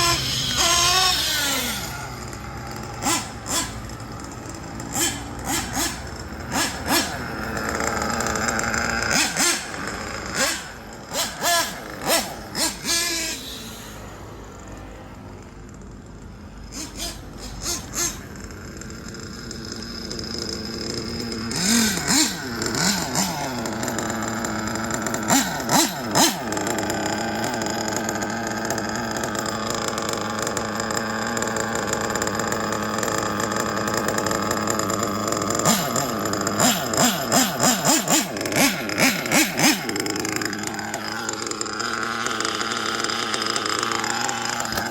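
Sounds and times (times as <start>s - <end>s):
nitro engine with throttle blips: 0.0s - 44.9s.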